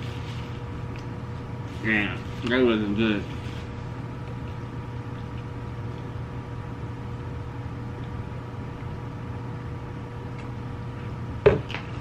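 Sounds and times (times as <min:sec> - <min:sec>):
low mechanical hum with whine: 0:00.0 - 0:12.0.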